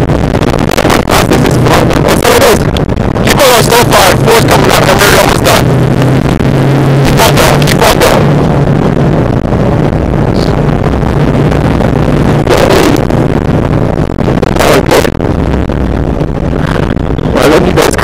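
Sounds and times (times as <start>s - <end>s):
car engine drone: 0.0s - 18.0s
gravel and road noise: 0.0s - 18.0s.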